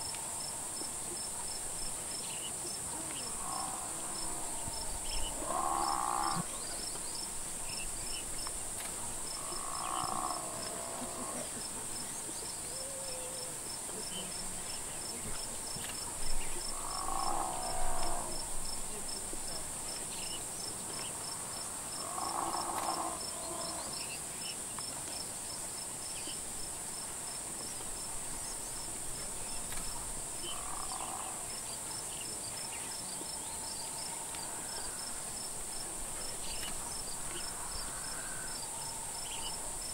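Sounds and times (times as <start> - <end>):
cicada whine: 0.0 - 24.6, 26.0 - 39.9
cricket chirping: 0.0 - 39.9.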